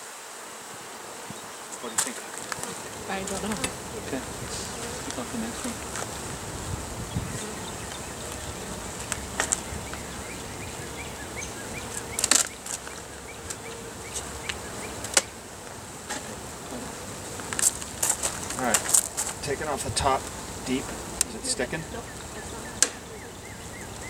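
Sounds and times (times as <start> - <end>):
bees humming: 0.0 - 24.0.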